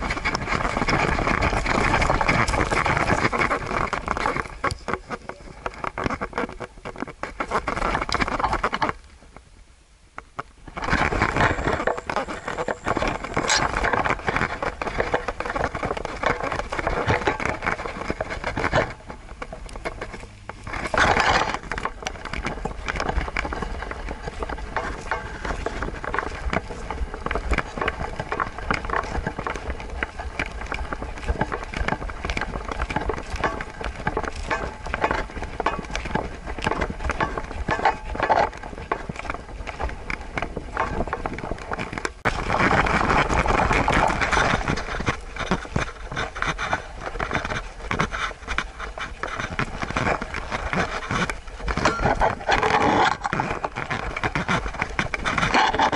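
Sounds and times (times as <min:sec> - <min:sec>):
camera rubbing and jostling: 0:00.0 - 0:09.1, 0:10.3 - 0:55.9
dog paws pattering on trail: 0:00.0 - 0:09.5, 0:10.2 - 0:55.9.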